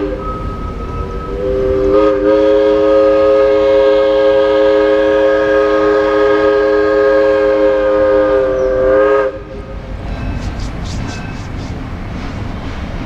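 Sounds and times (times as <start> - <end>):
locomotive air horn chord: 0.0 - 11.8.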